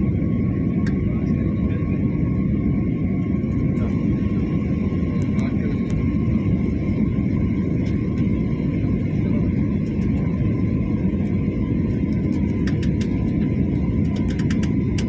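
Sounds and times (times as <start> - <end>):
jet engine and airflow roar: 0.0 - 15.0.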